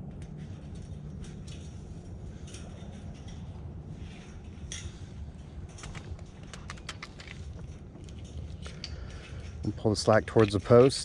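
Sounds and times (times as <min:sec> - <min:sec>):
cable handling clicks and rustles: 0:00.0 - 0:11.0
low outdoor rumble: 0:00.0 - 0:11.0.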